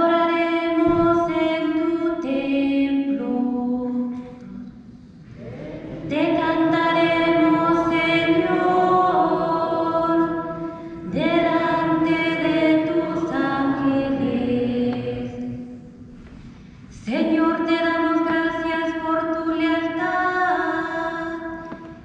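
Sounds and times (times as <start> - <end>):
person singing a psalm: 0.0 - 4.6, 5.4 - 15.8, 17.1 - 21.9.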